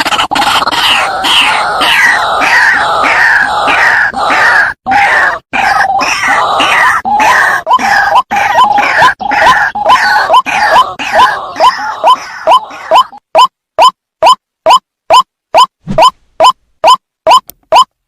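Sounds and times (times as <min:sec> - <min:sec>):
waterhen croaking calls: 0:00.0 - 0:17.9.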